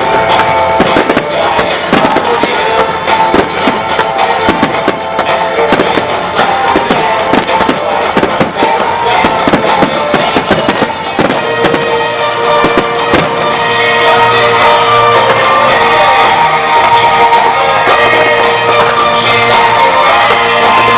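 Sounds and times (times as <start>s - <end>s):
fireworks shells bursting: 0.0s - 20.9s
loud music: 0.0s - 20.9s.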